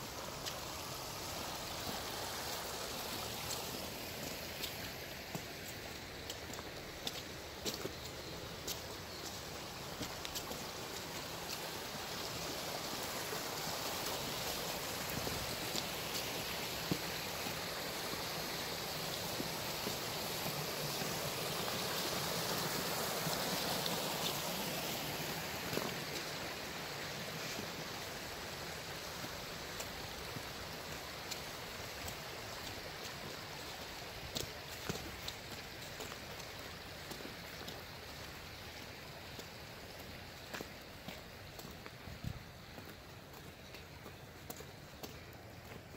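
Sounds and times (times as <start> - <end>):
floodwater rushing: 0.0 - 45.9.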